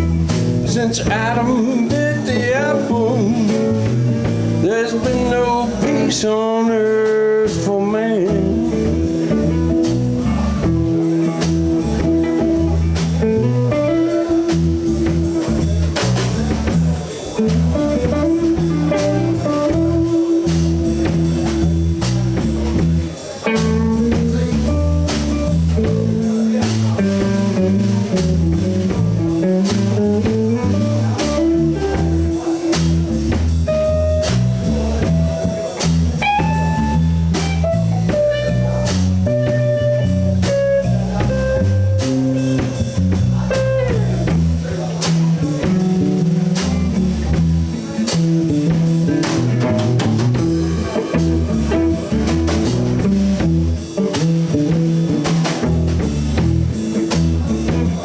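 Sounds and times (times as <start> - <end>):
drum kit with cymbal strokes: 0.0 - 58.0
lead guitar bending notes: 0.0 - 58.0
walking bass line: 0.0 - 58.0.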